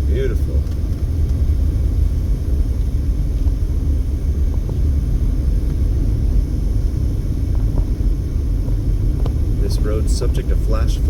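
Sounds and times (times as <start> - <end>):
car engine drone: 0.0 - 11.0.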